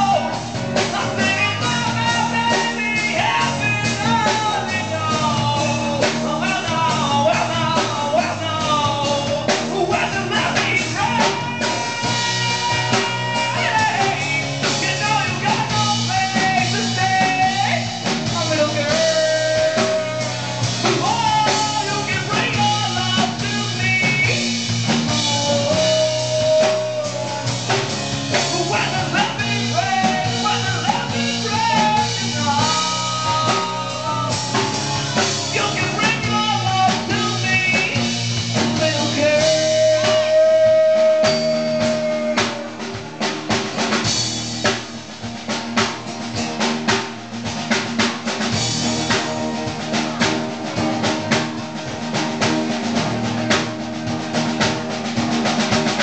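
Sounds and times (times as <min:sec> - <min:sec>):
bending melody line: 0:00.0 - 0:56.0
drum kit: 0:00.0 - 0:56.0
electric guitars: 0:00.0 - 0:56.0.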